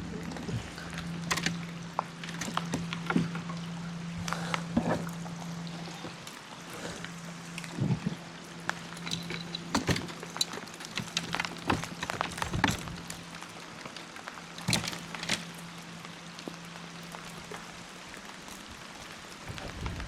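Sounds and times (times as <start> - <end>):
low steady hum: 0.0 - 20.0
rain falling on water: 0.0 - 20.0
sharp drips and knocks: 0.2 - 20.0.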